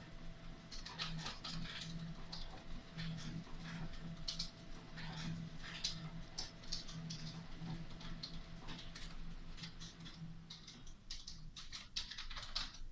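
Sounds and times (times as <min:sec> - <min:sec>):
light irregular clicks and taps: 0:00.7 - 0:12.9.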